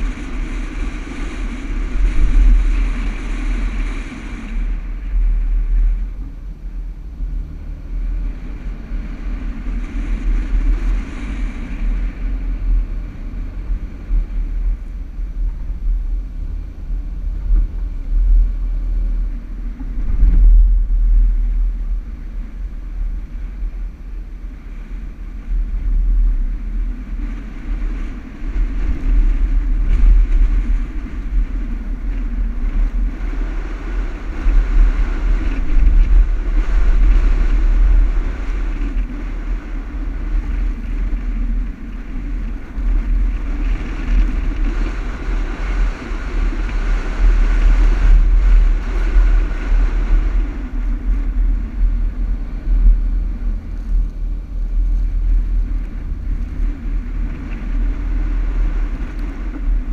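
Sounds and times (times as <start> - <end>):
engine and tyres rumbling on sand: 0.0 - 59.9.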